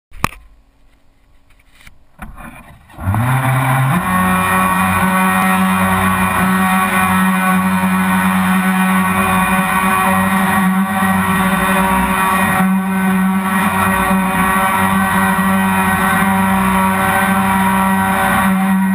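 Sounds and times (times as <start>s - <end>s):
model boat motor running: 2.2s - 18.9s.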